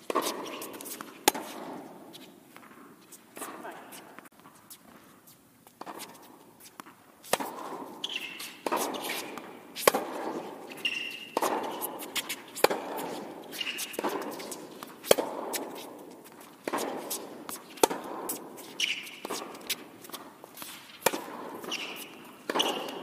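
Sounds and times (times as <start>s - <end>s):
tennis racquet hits and ball bounces: 0.0s - 23.0s
sneaker squeaks: 0.1s - 2.4s, 3.0s - 23.0s.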